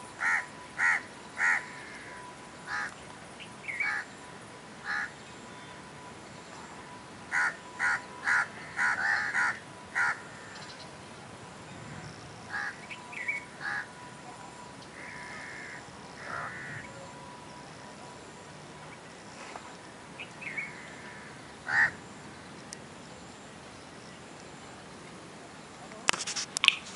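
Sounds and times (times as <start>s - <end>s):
birds calling: 0.0s - 25.2s.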